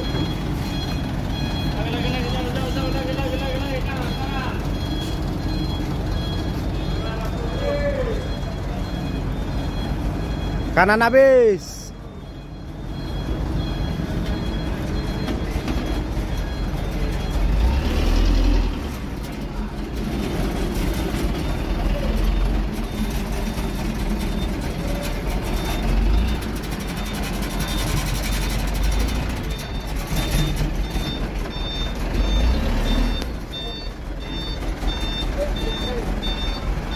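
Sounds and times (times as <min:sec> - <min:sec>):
heavy vehicle engines rumbling: 0:00.0 - 0:36.9
reversing beeper: 0:00.0 - 0:36.9.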